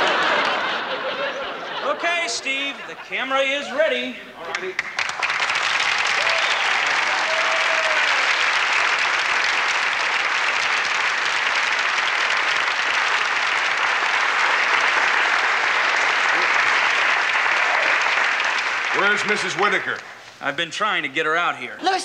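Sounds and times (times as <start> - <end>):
crowd applauding: 0.0 - 3.0, 4.4 - 20.2.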